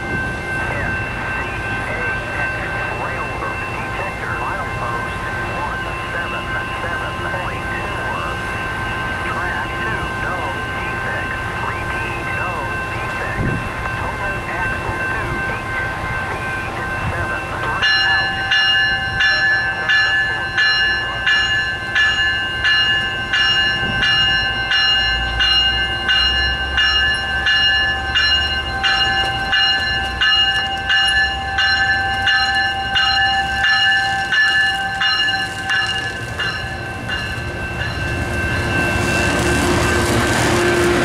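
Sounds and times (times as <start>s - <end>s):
low train rumble: 0.0s - 41.0s
train warning bell ringing: 0.0s - 41.0s.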